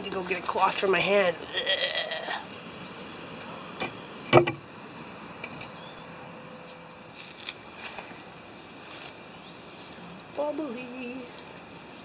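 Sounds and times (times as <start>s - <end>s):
thin high tone: 0.0s - 11.4s.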